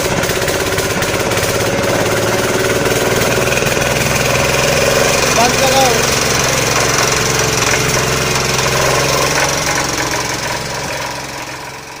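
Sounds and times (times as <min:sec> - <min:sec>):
diesel pump engine knocking: 0:00.0 - 0:12.0.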